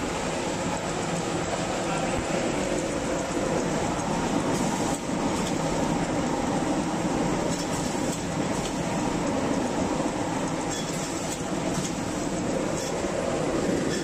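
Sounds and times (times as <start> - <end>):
packing machine mechanical rumble: 0.6 - 14.0.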